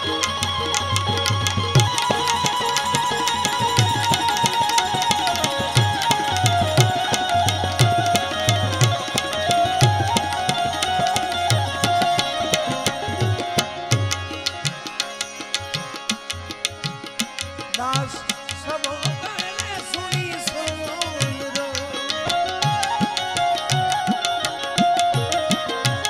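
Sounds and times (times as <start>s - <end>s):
clicking percussion: 0.0s - 26.0s
held sliding melody line: 0.0s - 26.0s.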